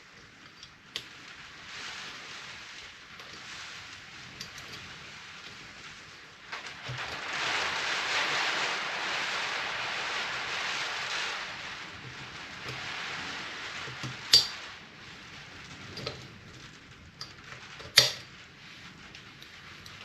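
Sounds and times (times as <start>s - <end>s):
rain on a roof: 0.0s - 20.0s.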